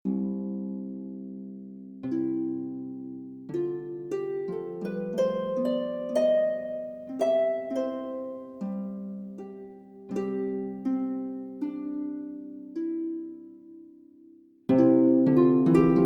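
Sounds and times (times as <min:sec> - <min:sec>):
calm harp-like instrumental music: 0:00.0 - 0:16.0.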